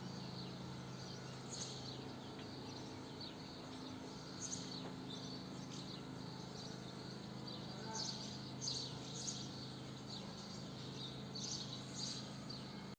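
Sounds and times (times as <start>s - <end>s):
swallows twittering: 0.0s - 12.9s.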